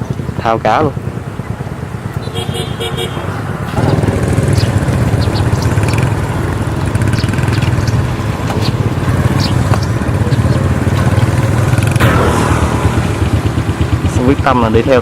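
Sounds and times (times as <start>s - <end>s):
small engine rumbling: 0.0s - 15.0s.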